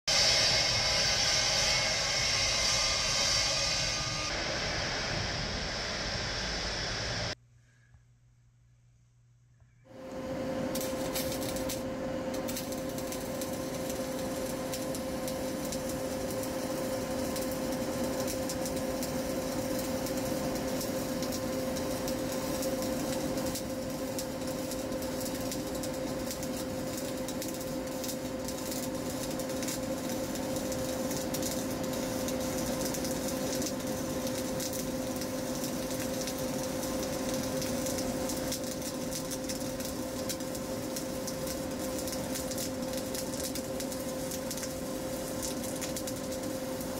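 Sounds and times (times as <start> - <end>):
welding machine electrical hum: 0.1 - 7.4, 9.9 - 46.9.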